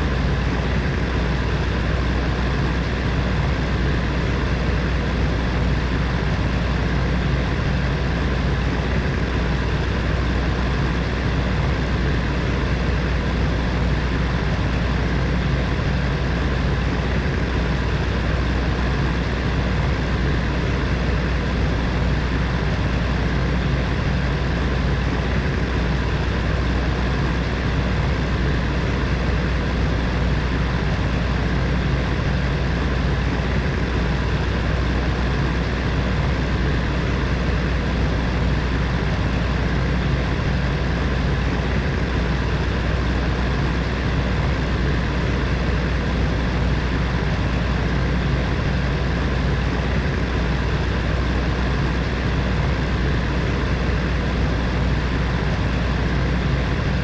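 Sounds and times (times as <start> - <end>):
low motor hum: 0.0 - 57.0.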